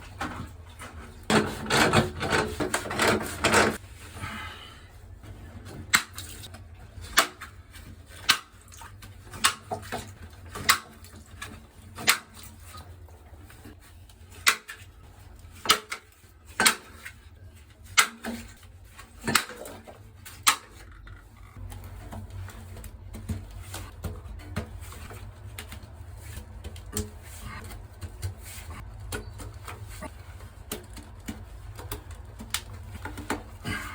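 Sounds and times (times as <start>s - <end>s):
rubbing and handling noise: 0.0s - 33.9s.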